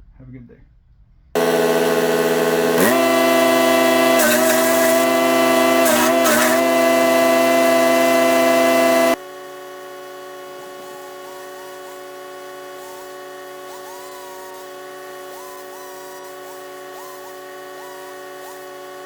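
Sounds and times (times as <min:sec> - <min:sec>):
wood chipper engine running: 0:01.4 - 0:19.0.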